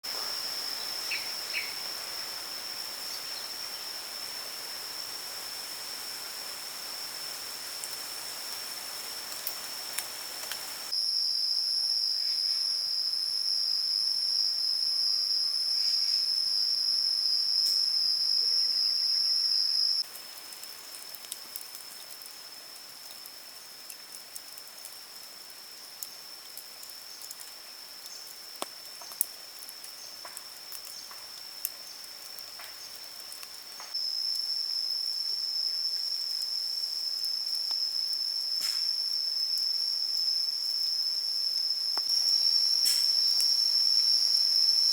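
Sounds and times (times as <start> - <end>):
insects trilling: 0.1 - 44.9.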